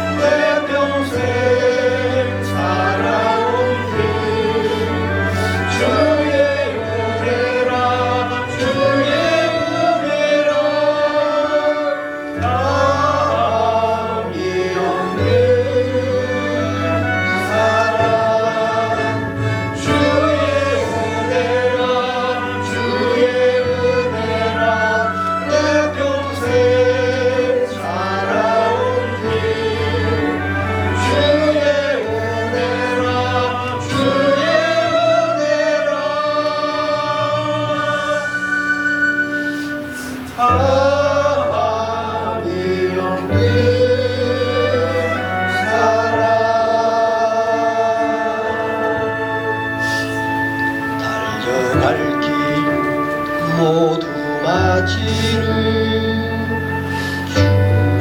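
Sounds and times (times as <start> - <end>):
choir singing gospel song: 0.0 - 58.0
instrumental accompaniment: 0.0 - 58.0.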